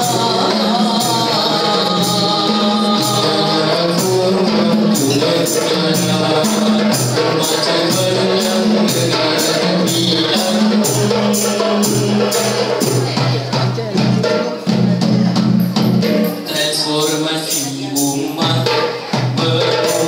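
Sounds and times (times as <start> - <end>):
boys singing in harmony: 0.0 - 14.7, 15.8 - 20.0
hand percussion beat: 0.0 - 20.0.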